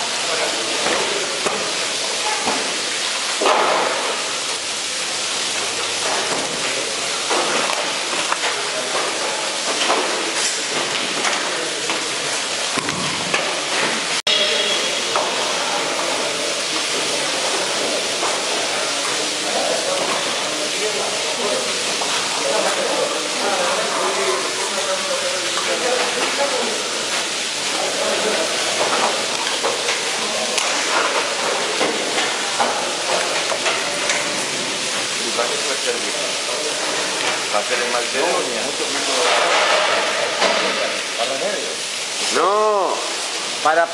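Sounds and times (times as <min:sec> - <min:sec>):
water spraying: 0:00.0 - 0:43.9.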